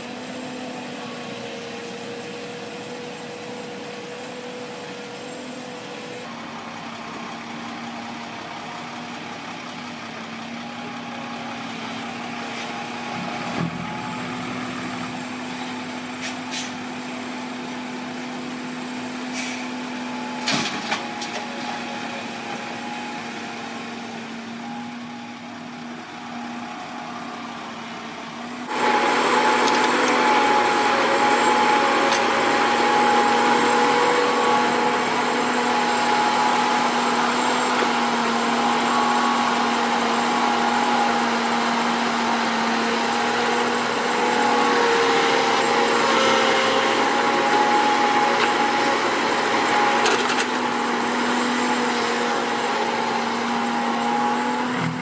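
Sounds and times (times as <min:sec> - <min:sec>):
construction machine engine running: 0:00.0 - 0:55.0.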